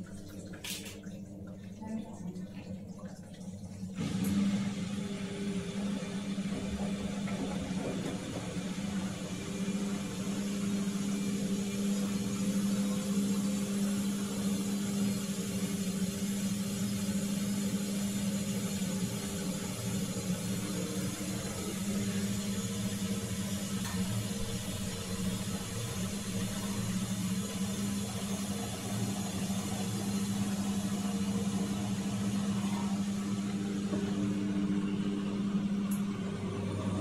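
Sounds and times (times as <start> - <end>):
washer-dryer motor humming: 0.0 - 37.0.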